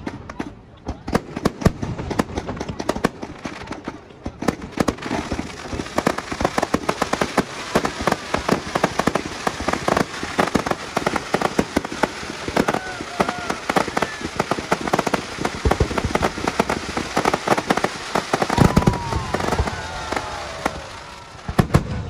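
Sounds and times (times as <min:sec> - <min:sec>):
deep firework bangs: 0:00.0 - 0:22.0
fireworks crackling pops: 0:00.0 - 0:22.0.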